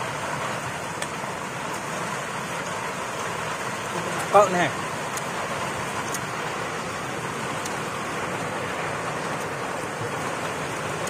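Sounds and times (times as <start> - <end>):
steady rushing background noise: 0.0 - 11.0.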